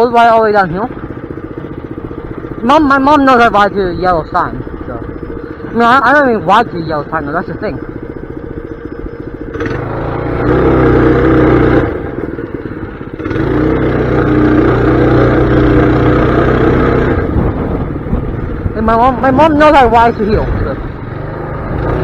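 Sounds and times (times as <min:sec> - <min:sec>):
small engine under throttle: 0:00.0 - 0:22.0.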